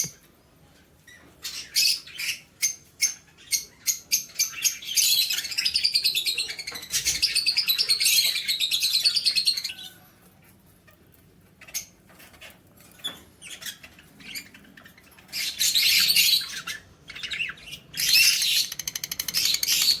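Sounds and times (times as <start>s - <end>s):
lovebirds chattering: 1.0s - 20.0s.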